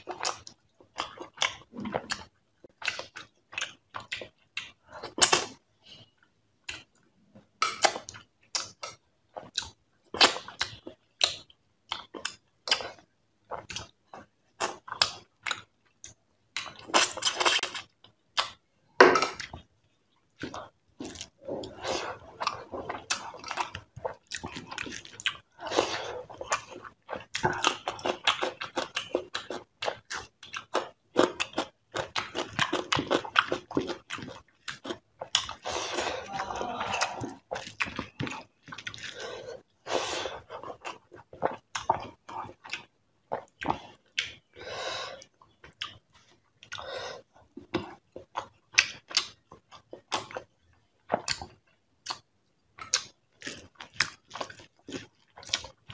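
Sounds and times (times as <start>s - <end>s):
person chewing and lip-smacking: 0.0s - 5.6s, 6.6s - 7.0s, 7.6s - 18.6s, 20.3s - 55.9s.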